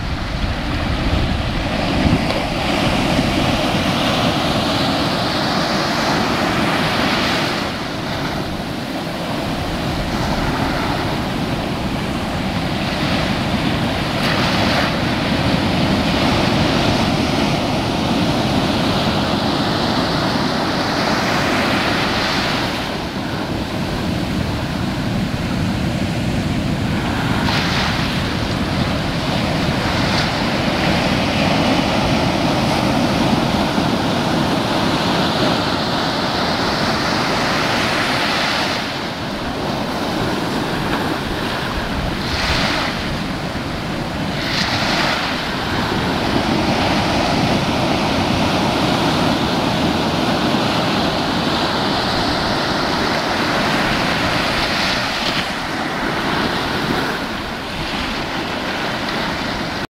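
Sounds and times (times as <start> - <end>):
surf washing over sand: 0.0 - 59.9.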